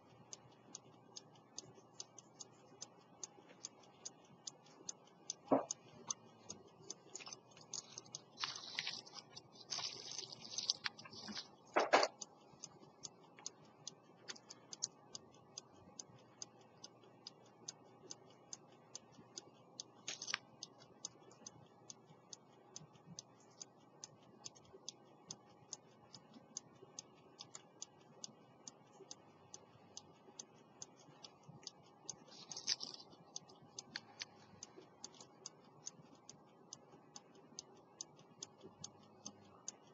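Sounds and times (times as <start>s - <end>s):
pocket watch ticking: 0.0s - 39.9s.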